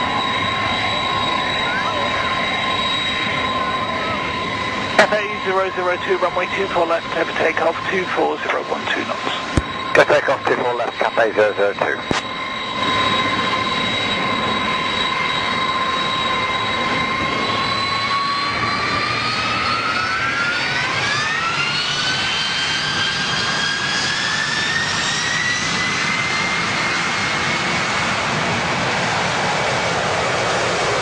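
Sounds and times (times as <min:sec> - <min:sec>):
jet engines spooling up: 0:00.0 - 0:31.0.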